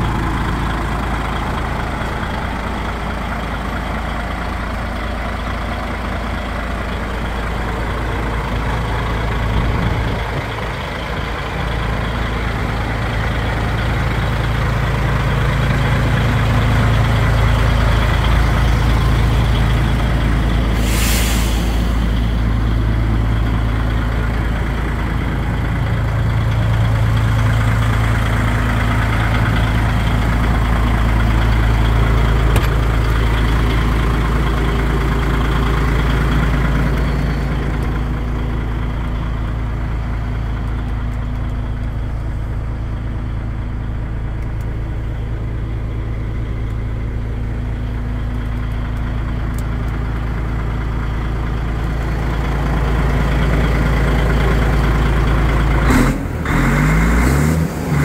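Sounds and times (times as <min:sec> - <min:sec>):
diesel truck idling: 0:00.0 - 0:58.0.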